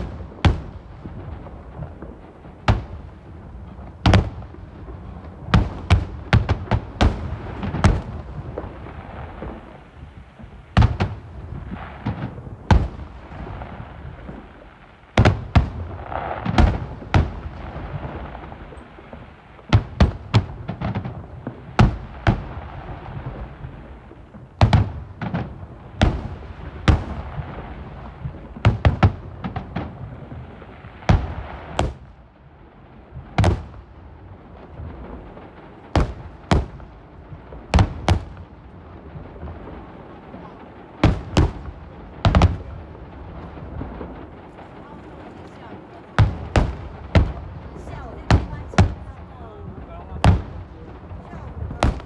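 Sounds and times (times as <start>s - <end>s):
continuous background noise: 0.0s - 52.0s
fireworks bursting: 0.0s - 52.0s.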